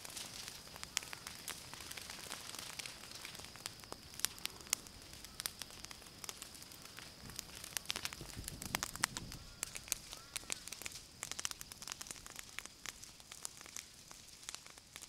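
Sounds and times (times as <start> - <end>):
bushfire crackling and popping: 0.0 - 15.0.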